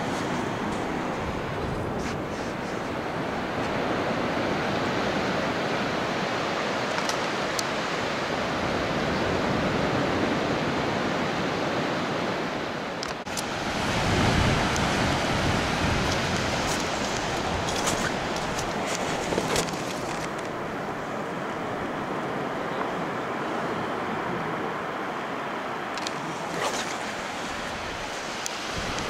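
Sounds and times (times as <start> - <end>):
surf washing on sandy beach: 0.0 - 29.0
wind on microphone: 0.0 - 29.0.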